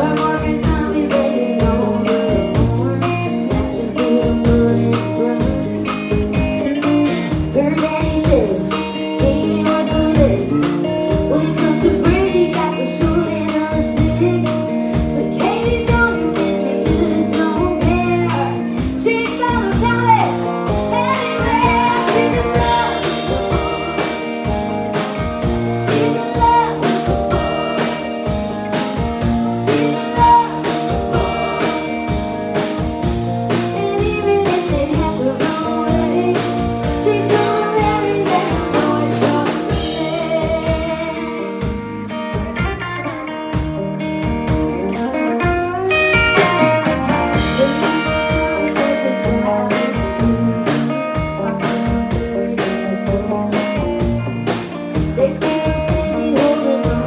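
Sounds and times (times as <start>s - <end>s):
woman singing: 0.0s - 41.7s, 44.8s - 57.0s
bass guitar: 0.0s - 57.0s
drum kit: 0.0s - 57.0s
electric guitar: 0.0s - 57.0s.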